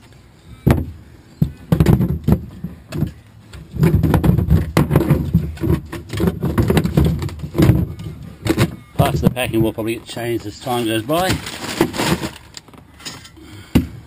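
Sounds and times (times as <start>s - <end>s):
tin cans clunking and scraping: 0.6s - 14.0s.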